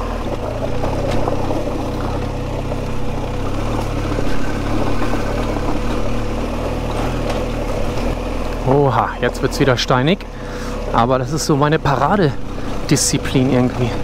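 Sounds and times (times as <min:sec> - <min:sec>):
motorcycle engine running: 0:00.0 - 0:14.0
tyres crunching over gravel: 0:00.0 - 0:14.0.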